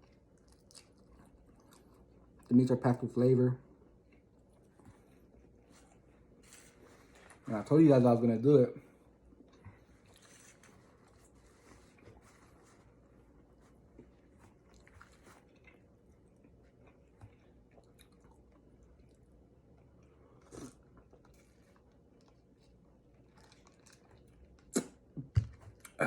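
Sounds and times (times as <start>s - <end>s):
person chewing food: 0.0s - 2.5s, 3.7s - 7.4s, 8.9s - 26.0s.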